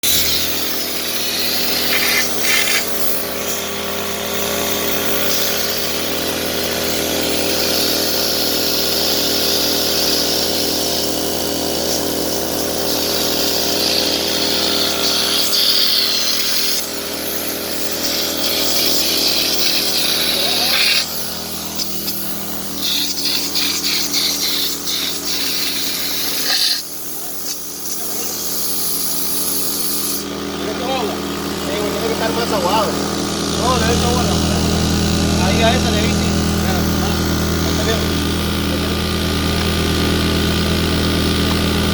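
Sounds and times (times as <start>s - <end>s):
machine motor humming and hissing: 0.0s - 41.9s.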